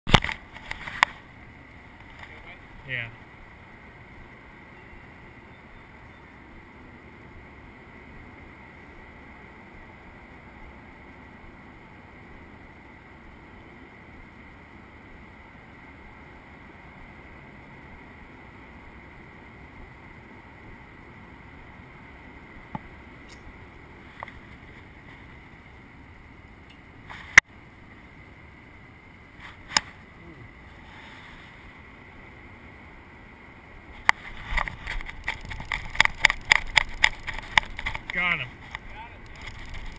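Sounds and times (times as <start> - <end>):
low outdoor rumble: 0.1 - 39.9
thin high steady tone: 1.2 - 34.1.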